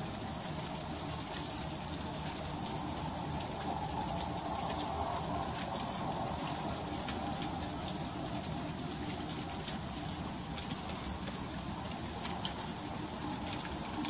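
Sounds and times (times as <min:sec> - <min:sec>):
freezing rain hissing: 0:00.0 - 0:14.0.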